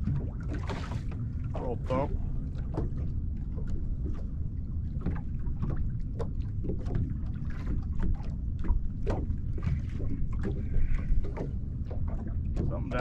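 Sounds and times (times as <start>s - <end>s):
waves slapping boat hull: 0.0s - 13.0s
wind rumble on microphone: 0.0s - 13.0s.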